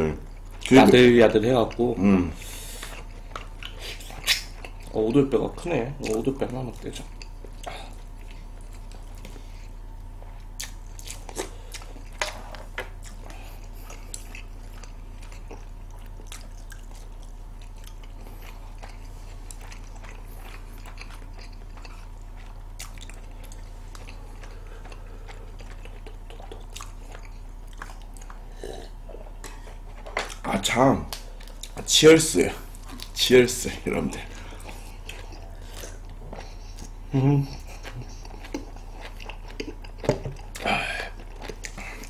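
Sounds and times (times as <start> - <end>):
chewing and crunching food: 0.0 - 42.0
low electrical hum: 0.0 - 42.0.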